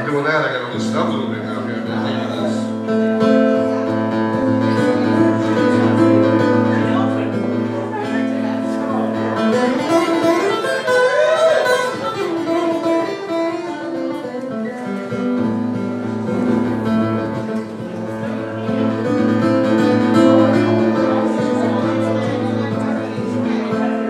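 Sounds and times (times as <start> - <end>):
acoustic guitar: 0.0 - 24.0.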